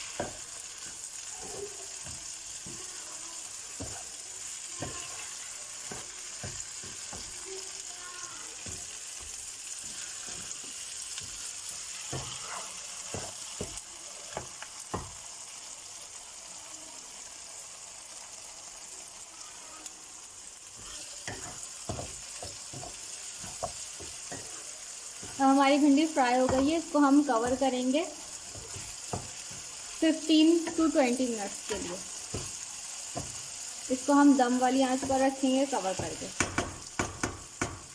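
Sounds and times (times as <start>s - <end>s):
spatula scraping a pan: 0.0s - 7.8s, 8.4s - 15.1s, 20.6s - 37.9s
food sizzling in hot oil: 0.0s - 37.9s.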